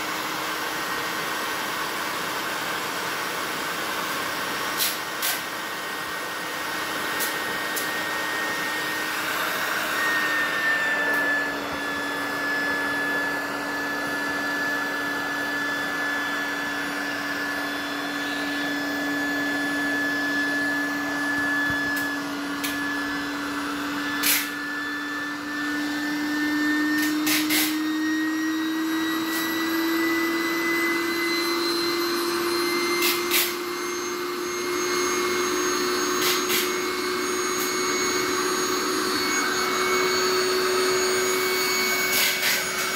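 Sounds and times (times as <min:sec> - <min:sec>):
electric air pump whining: 0:00.0 - 0:42.9.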